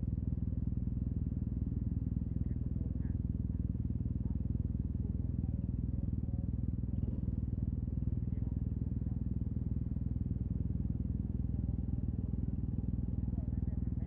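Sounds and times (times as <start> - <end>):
scooter engine at low revs: 0.0 - 14.0.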